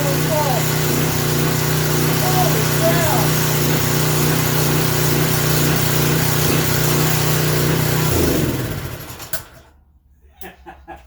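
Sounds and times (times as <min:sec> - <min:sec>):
small gasoline engine running: 0:00.0 - 0:09.8.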